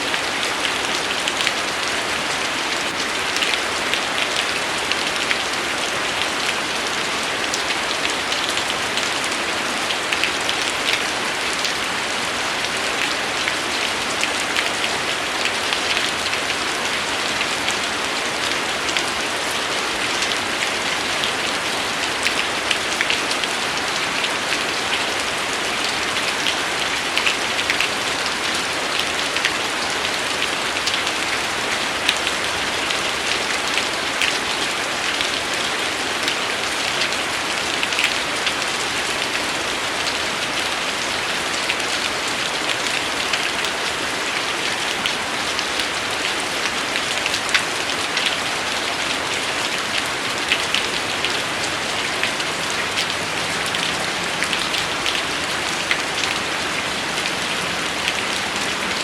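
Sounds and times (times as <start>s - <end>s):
steady rain hissing: 0.0s - 59.0s
raindrops ticking: 0.1s - 6.7s, 7.3s - 59.0s.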